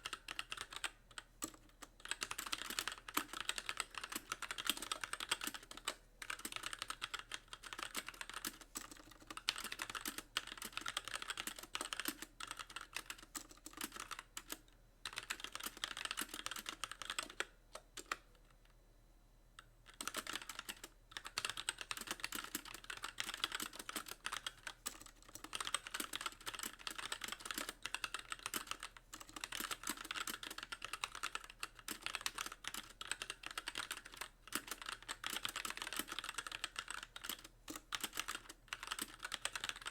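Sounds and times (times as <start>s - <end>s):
fast typing on mechanical keyboard: 0.0s - 18.2s, 19.9s - 39.9s.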